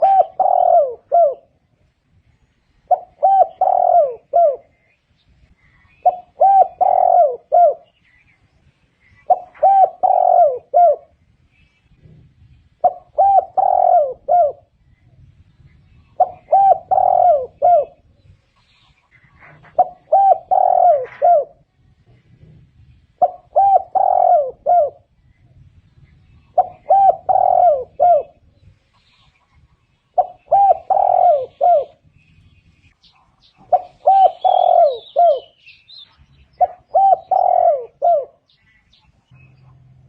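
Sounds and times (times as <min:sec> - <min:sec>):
dove cooing: 0:00.0 - 0:01.6, 0:02.8 - 0:04.9, 0:05.6 - 0:08.0, 0:09.0 - 0:11.2, 0:12.0 - 0:15.1, 0:15.9 - 0:25.5, 0:26.2 - 0:29.4, 0:30.1 - 0:32.2, 0:33.3 - 0:40.0.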